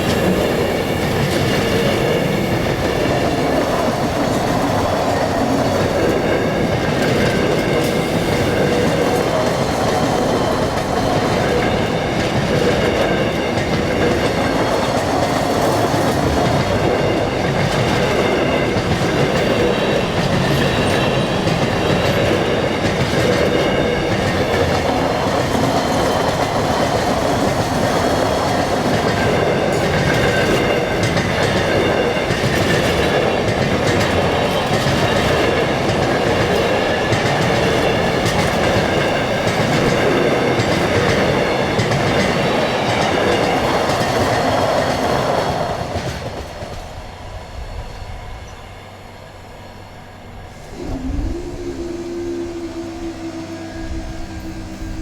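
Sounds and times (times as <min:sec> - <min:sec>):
clickety-clack over rail joints: 0:00.0 - 0:47.7
train wheels rumbling on rails: 0:00.0 - 0:55.0.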